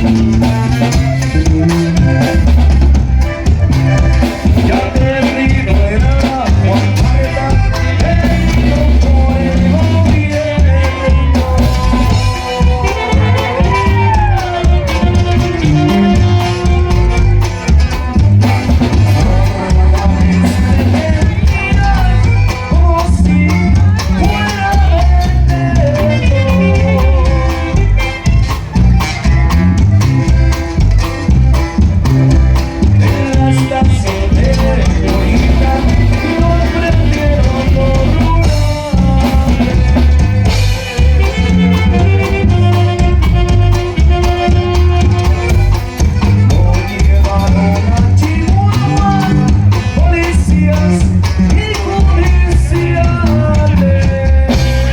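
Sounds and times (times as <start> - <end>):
band playing: 0.0 - 54.9
bouncing bass line: 0.0 - 54.9
steady drum beat: 0.0 - 54.9.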